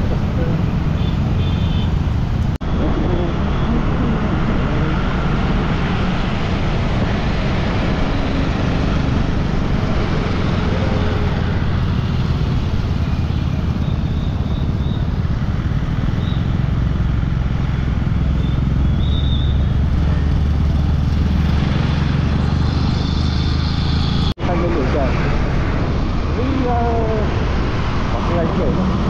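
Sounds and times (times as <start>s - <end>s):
road noise: 0.0s - 29.0s
vehicle engine running: 0.0s - 29.0s.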